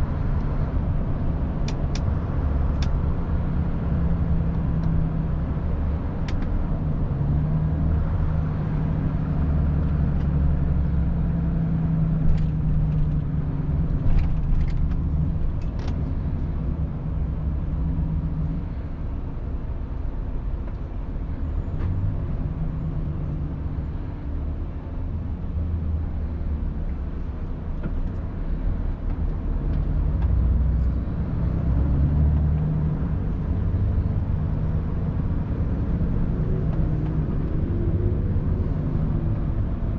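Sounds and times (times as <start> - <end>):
road rumble: 0.0 - 39.9
truck diesel engine drone: 0.0 - 39.9.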